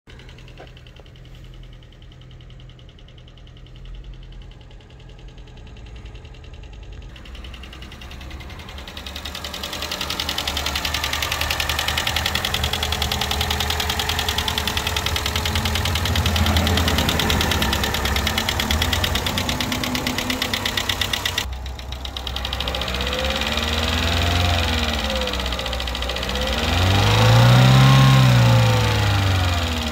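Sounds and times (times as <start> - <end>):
car engine idling with ticking: 0.0 - 29.9
engine revving: 0.1 - 29.9.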